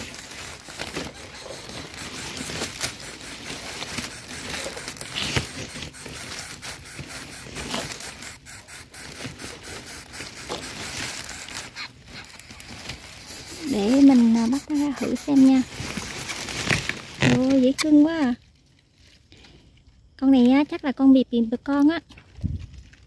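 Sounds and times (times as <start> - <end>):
dry leaves rustling and crackling: 0.0 - 19.3.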